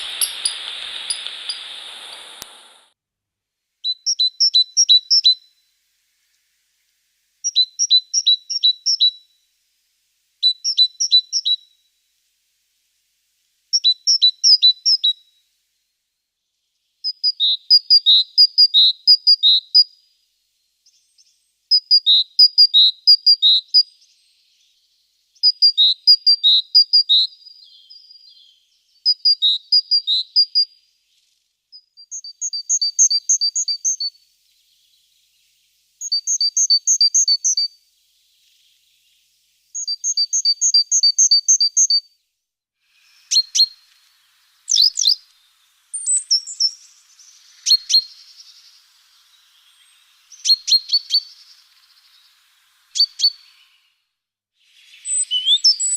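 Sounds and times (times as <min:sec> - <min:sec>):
small songbird singing: 0:00.0 - 0:02.9, 0:03.8 - 0:09.6, 0:10.4 - 0:12.0, 0:13.3 - 0:15.6, 0:16.2 - 0:55.9.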